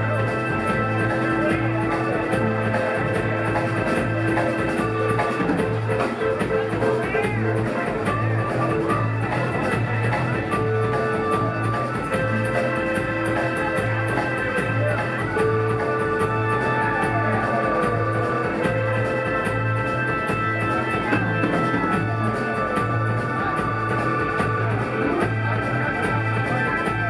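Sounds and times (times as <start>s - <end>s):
rock band playing: 0.0s - 27.0s.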